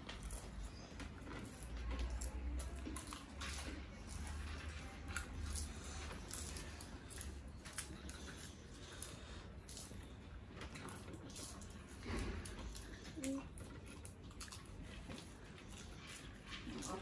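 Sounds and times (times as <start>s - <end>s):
chewing: 0.0s - 17.0s
popcorn rustling and crunching: 0.0s - 17.0s.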